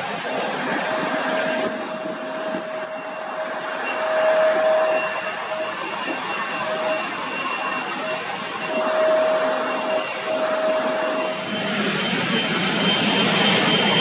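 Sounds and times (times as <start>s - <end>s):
high steady whine: 0.0s - 14.0s
jet engines rushing: 0.0s - 14.0s.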